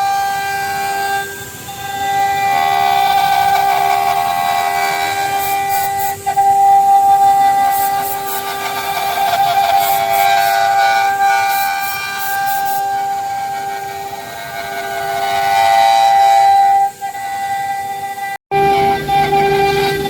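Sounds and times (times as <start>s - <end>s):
router spindle whining: 0.0s - 20.0s.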